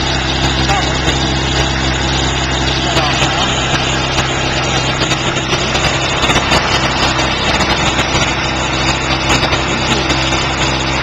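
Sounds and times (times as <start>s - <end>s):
portable generator engine running: 0.0s - 11.0s.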